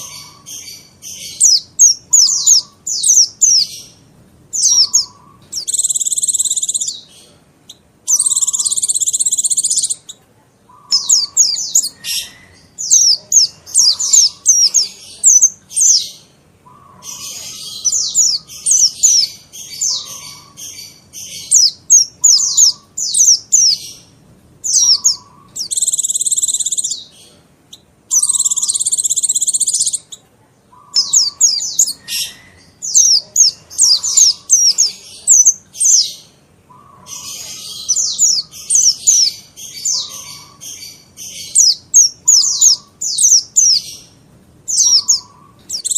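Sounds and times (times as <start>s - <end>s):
bird chirps and buzzy trills: 0.0s - 45.9s.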